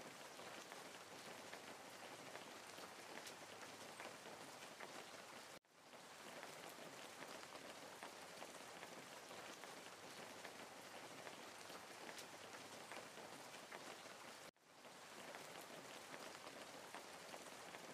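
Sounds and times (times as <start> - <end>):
rain-like patter and hiss: 0.0 - 17.9.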